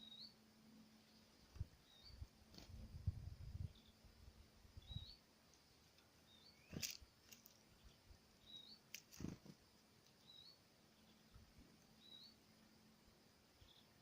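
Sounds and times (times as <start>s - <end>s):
small songbird chirping: 0.0s - 14.0s.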